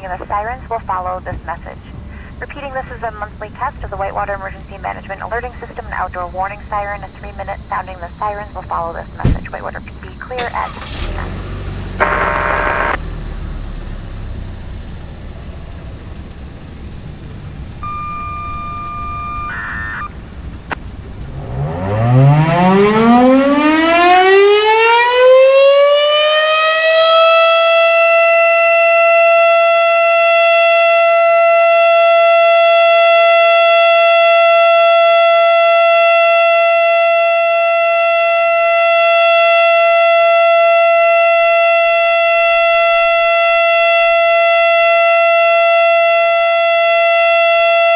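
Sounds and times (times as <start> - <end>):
warning siren winding up: 4.0 - 14.6, 17.7 - 47.9.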